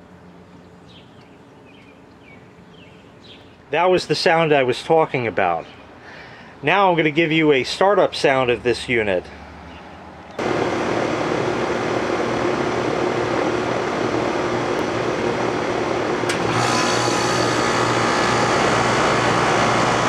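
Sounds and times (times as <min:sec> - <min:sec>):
air conditioner compressor and fan: 0:00.0 - 0:20.0.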